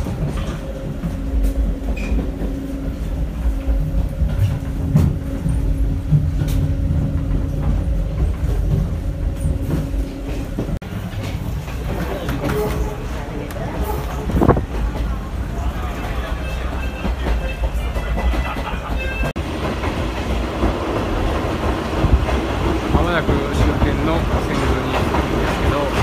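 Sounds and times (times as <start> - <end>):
train coach rumble and hum: 0.0 - 26.0.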